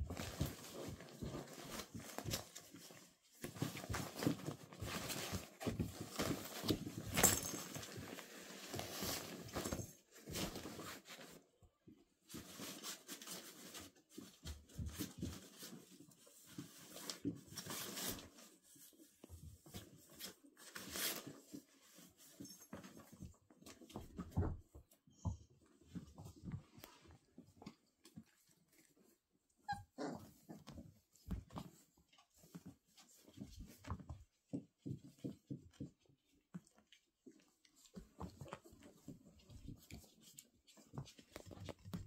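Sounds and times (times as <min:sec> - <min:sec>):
puppies rustling and scratching fabric: 0:00.0 - 0:42.0.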